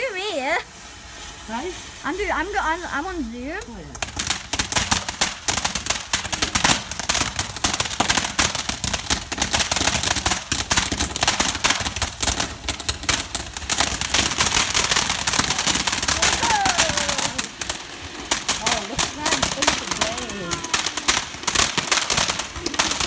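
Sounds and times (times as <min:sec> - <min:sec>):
fireworks crackling: 0:00.0 - 0:23.0.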